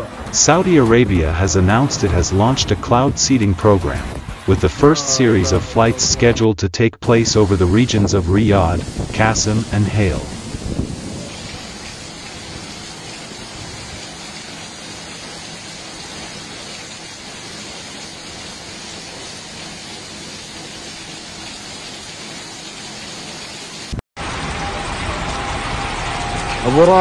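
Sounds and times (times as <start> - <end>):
heavy rain falling: 0.0 - 6.3, 7.0 - 27.0.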